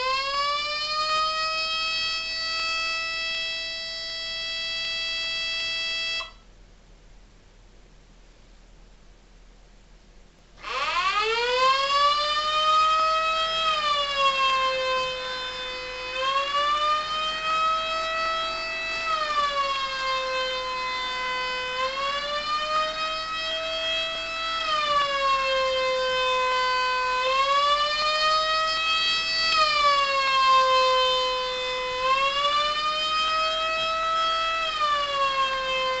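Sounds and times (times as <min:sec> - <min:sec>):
siren wailing: 0:00.0 - 0:06.4, 0:10.6 - 0:36.0.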